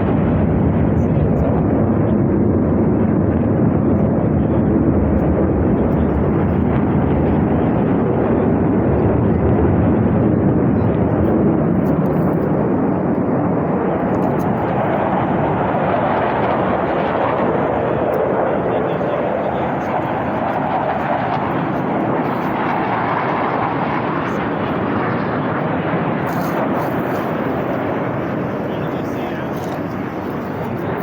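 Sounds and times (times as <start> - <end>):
aircraft engine flying past: 0.0 - 31.0.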